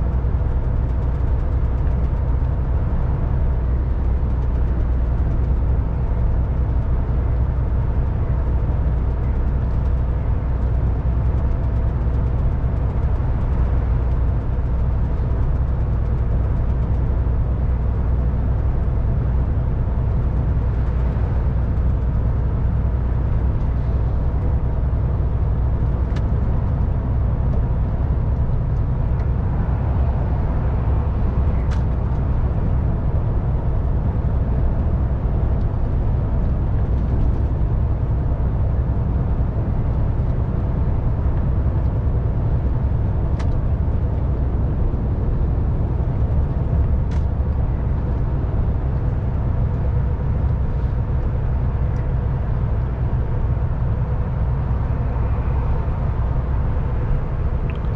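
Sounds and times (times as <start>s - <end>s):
diesel truck engine drone: 0.0s - 57.9s
tyre and road noise: 0.0s - 57.9s.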